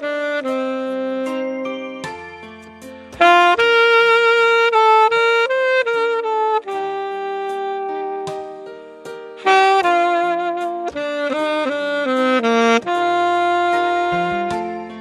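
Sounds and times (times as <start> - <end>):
lower musical accompaniment: 0.0 - 15.0
solo wind instrument melody: 0.0 - 15.0.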